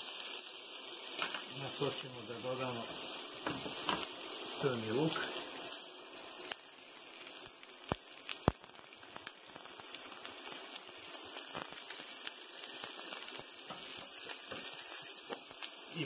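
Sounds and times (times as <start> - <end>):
onion sizzling in a pan: 0.0 - 16.0
spatula stirring in a pan: 2.6 - 16.0.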